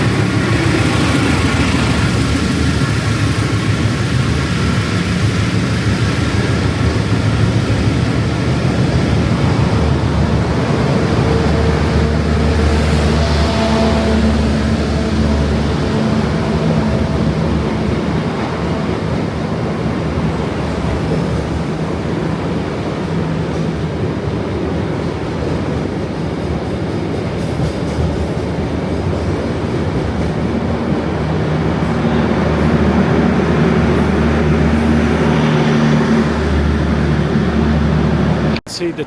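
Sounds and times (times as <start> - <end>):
diesel train engine droning: 0.0 - 39.0.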